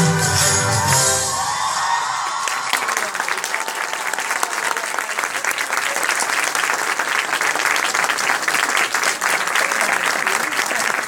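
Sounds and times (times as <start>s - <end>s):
audience clapping: 1.8s - 11.0s.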